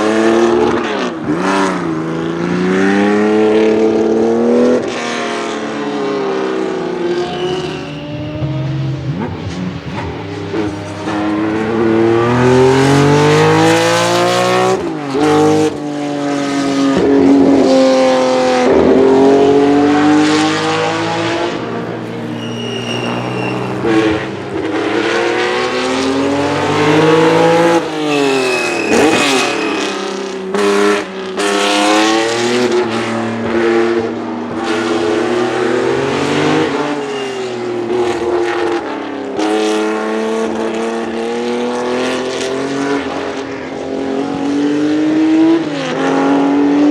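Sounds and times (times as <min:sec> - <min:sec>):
racing car accelerating: 0:00.0 - 0:46.9
racing car passing by: 0:02.5 - 0:46.9.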